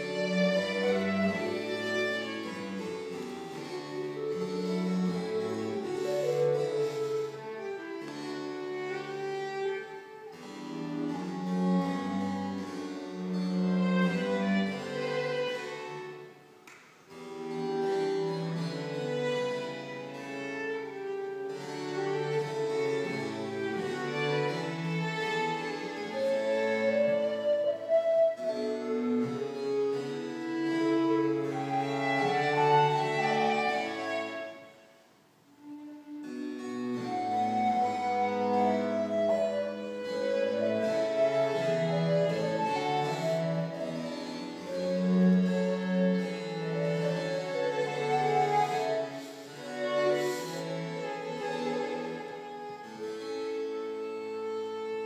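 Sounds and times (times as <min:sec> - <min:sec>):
baroque chamber ensemble playing: 0:00.0 - 0:55.0
low bowed string instrument: 0:00.0 - 0:55.0
violin: 0:00.0 - 0:55.0.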